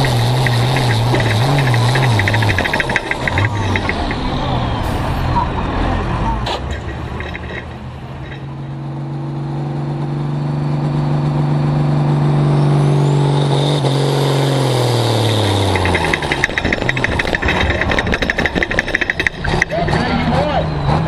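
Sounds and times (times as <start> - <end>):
tractor engine rattling clatter: 0.0 - 10.2, 13.0 - 21.0
tractor diesel engine revving: 0.0 - 21.0.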